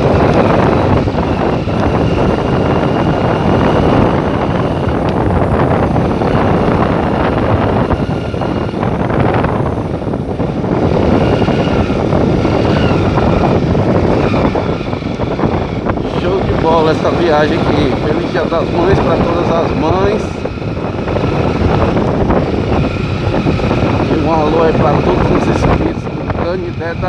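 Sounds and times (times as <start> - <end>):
motorcycle engine at speed: 0.0 - 27.0
wind on microphone: 0.0 - 27.0.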